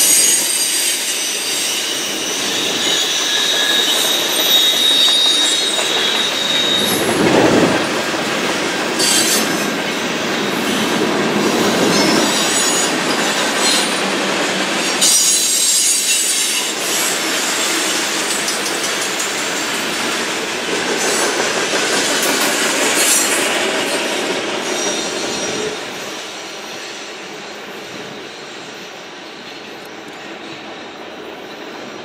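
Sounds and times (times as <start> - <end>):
train wheels clacking and squealing: 0.0 - 32.0.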